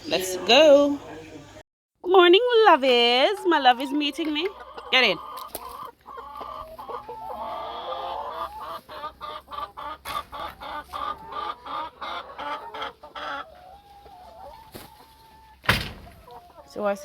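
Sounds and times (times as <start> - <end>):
chickens clucking: 2.7 - 17.0.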